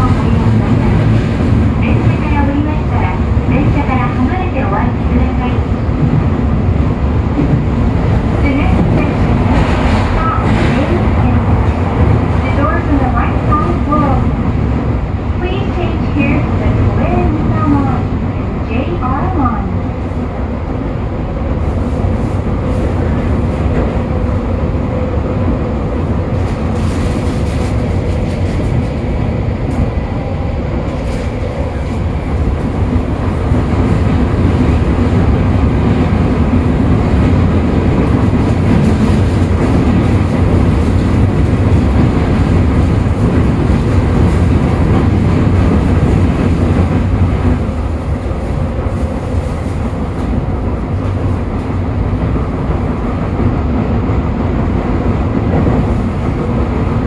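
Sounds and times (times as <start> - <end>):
subway train rumbling in tunnel: 0.0 - 57.0.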